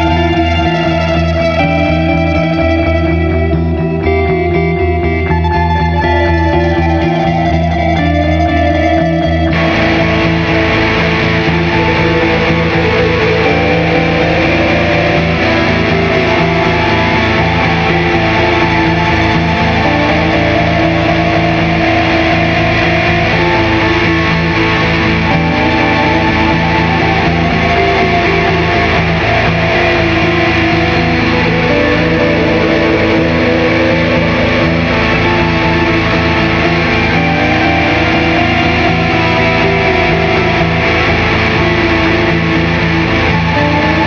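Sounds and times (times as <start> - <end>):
distorted string drone: 0.0 - 44.0.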